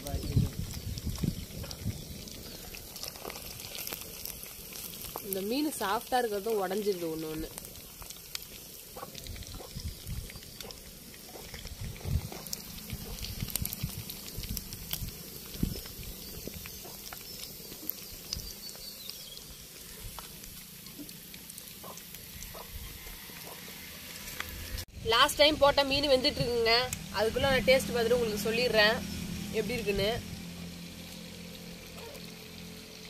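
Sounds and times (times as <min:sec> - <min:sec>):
fish sizzling in hot oil: 0:00.0 - 0:33.0
oil popping and crackling: 0:00.0 - 0:33.0.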